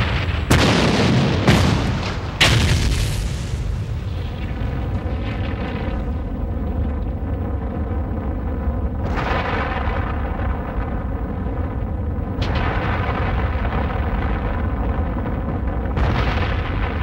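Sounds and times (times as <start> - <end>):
deep explosion rumble: 0.0 - 17.0
explosion blast: 0.0 - 17.0.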